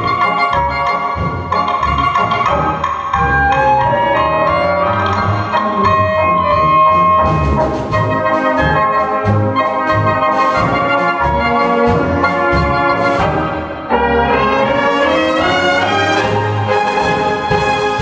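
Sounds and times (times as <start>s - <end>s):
brass band playing polka: 0.0s - 18.0s
tuba bass: 0.0s - 18.0s.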